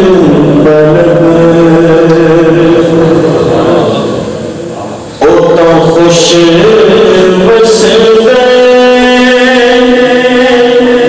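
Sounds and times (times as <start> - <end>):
man chanting into a microphone: 0.0 - 11.0.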